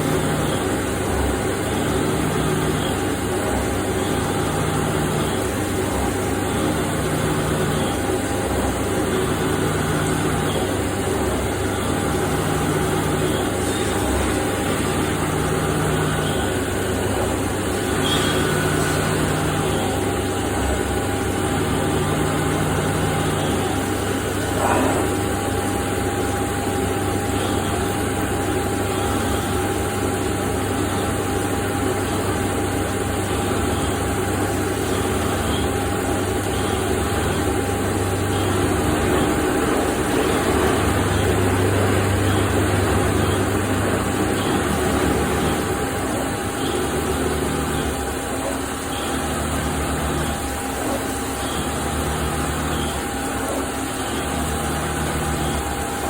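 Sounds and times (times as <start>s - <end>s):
milling machine spindle noise: 0.0s - 56.0s.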